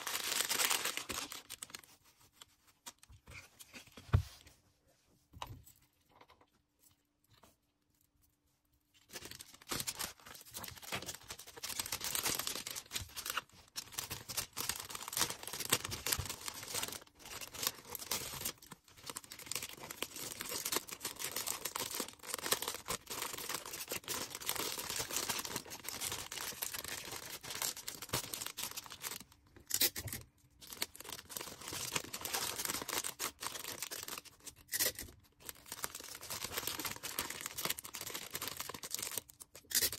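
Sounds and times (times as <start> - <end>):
packing material crinkling: 0.0 - 3.9, 9.0 - 39.9.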